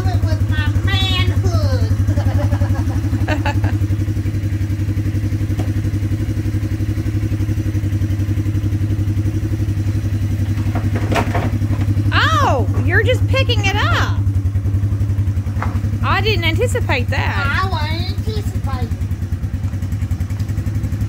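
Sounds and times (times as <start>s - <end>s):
motor running with pulsing hum: 0.0s - 21.0s.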